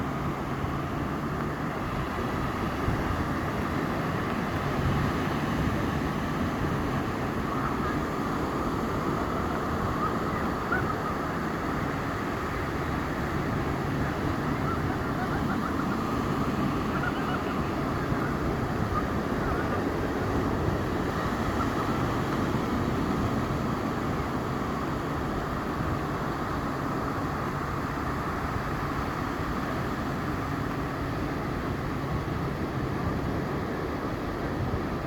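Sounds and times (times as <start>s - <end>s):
surf washing onto a beach: 0.0s - 35.0s
wind: 0.0s - 35.0s.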